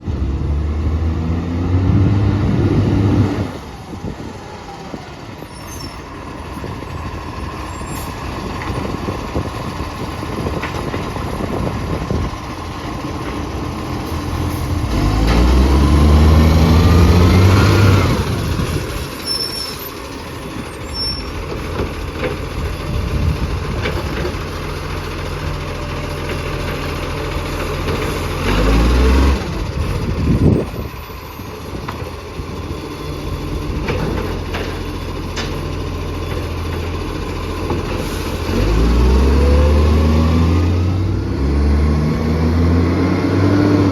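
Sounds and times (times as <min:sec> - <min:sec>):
diesel engine ticking and revving: 0:00.0 - 0:43.9.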